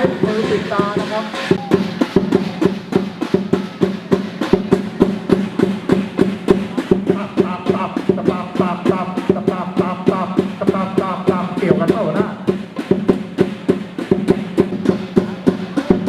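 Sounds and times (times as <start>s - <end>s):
drum and cymbals beating: 0.0s - 16.0s.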